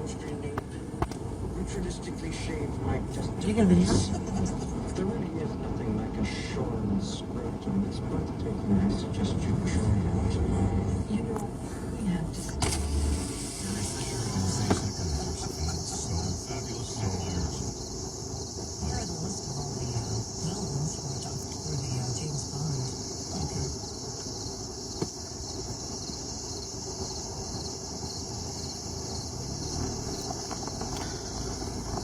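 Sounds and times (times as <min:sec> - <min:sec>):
crickets chirping: 0:00.0 - 0:09.4, 0:11.1 - 0:32.0.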